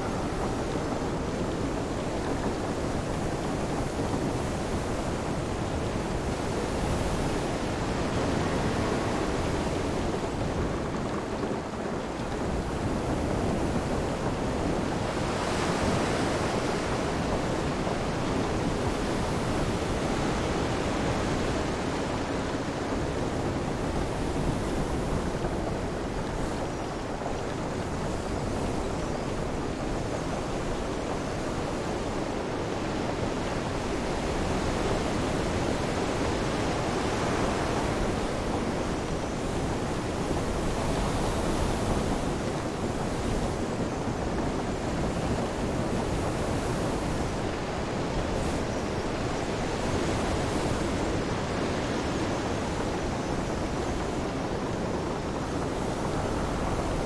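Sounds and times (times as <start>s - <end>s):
rain: 0.0s - 57.0s.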